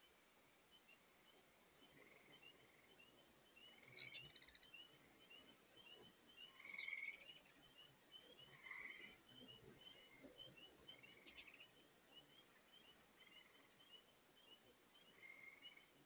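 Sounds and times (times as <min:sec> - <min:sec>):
hummingbirds chattering: 0:00.7 - 0:16.0.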